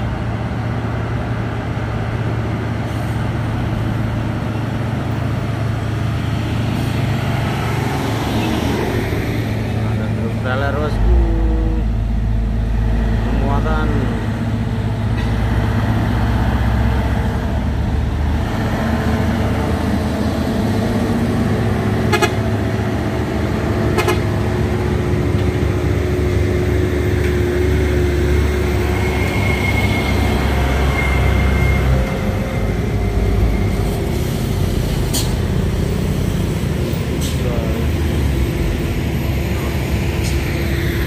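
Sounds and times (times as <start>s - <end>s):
truck diesel engines under load: 0.0s - 41.0s.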